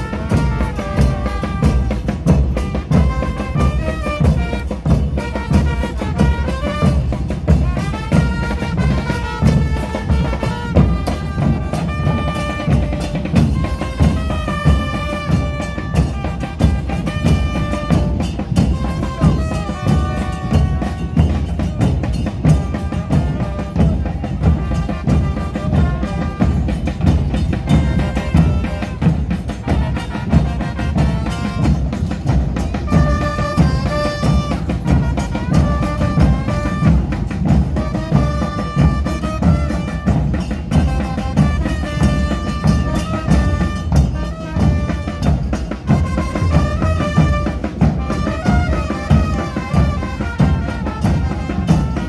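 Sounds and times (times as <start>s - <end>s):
brass band playing: 0.0s - 52.0s.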